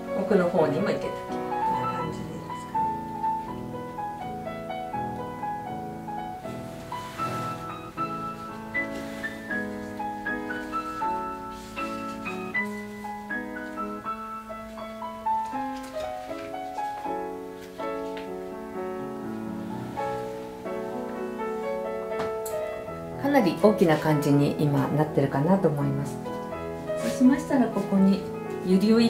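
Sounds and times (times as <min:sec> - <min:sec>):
solo piano music: 0:00.0 - 0:29.0.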